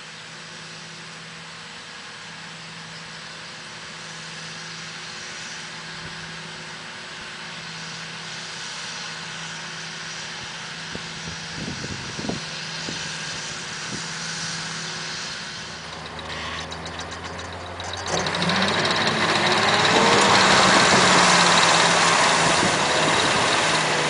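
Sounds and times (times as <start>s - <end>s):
tractor diesel engine droning: 0.0s - 24.0s.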